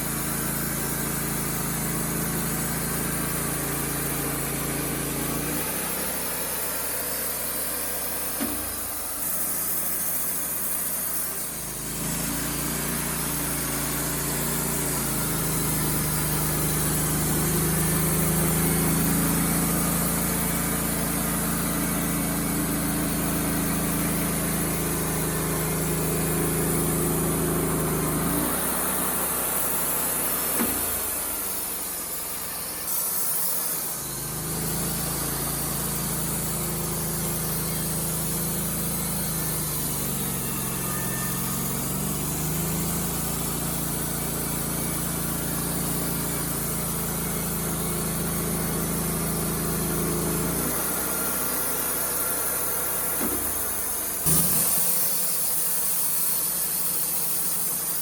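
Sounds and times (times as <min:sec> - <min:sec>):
band saw cutting log: 0:00.0 - 0:58.0
sawmill engine running: 0:00.0 - 0:58.0.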